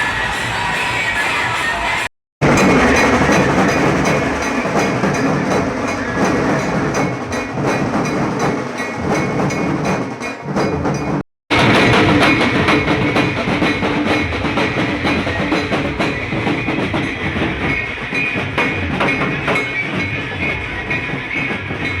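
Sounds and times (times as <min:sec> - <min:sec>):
loud music with heavy drums: 0:00.0 - 0:22.0.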